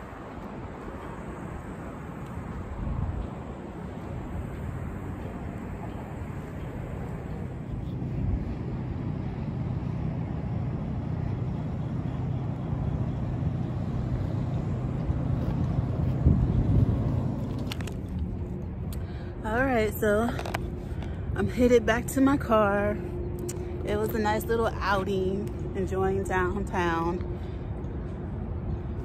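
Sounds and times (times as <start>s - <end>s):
city traffic rumble: 0.0s - 29.0s.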